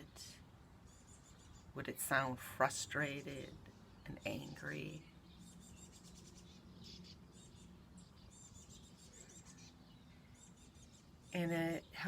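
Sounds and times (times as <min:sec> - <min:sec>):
small birds chirping and trilling: 0:00.0 - 0:12.0.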